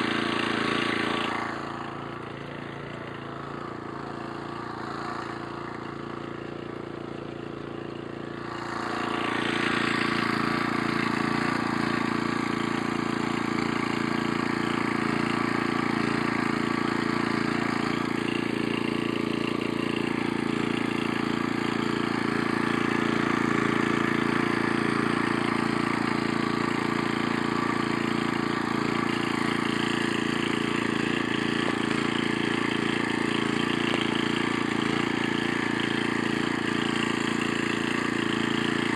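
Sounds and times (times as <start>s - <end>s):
walk-behind tractor engine running: 0.0s - 38.9s.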